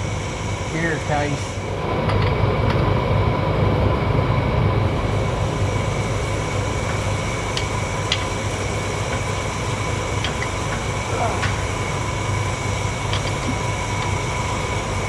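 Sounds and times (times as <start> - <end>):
low machine hum and rumble: 0.0 - 15.0.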